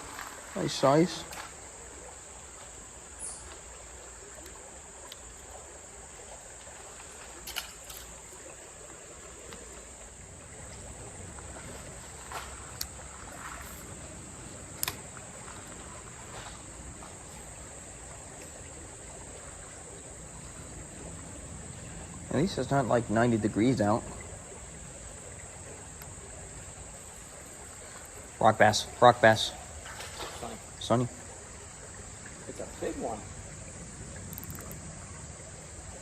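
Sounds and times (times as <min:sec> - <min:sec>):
insects droning: 0:00.0 - 0:36.0
low outdoor hiss: 0:00.0 - 0:36.0.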